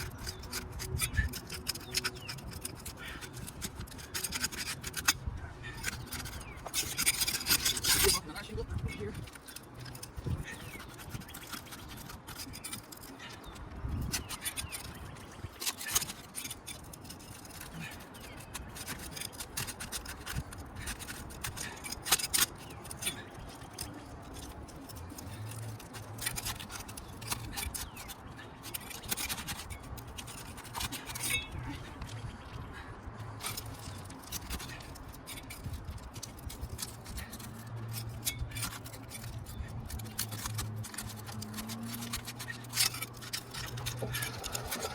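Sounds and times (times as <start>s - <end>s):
shingles scraping and crackling: 0.0s - 31.9s, 32.7s - 44.9s.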